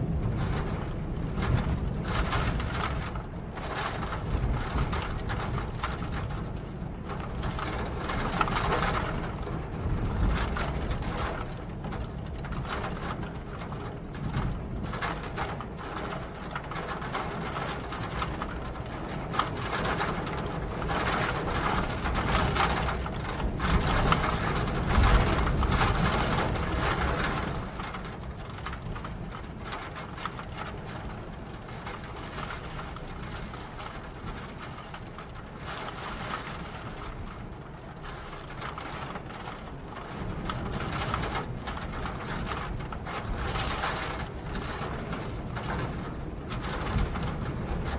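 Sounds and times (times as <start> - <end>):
rain pattering: 0.0 - 47.9.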